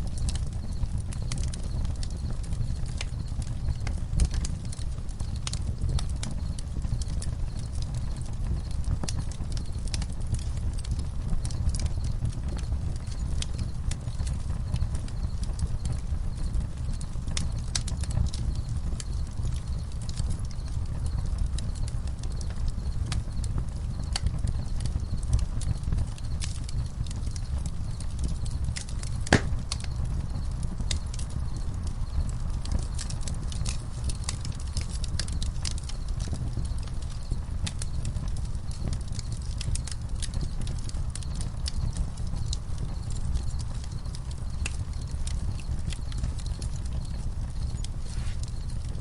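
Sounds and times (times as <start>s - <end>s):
campfire crackling: 0.0s - 49.0s
crickets chirping: 0.1s - 4.4s, 11.0s - 49.0s.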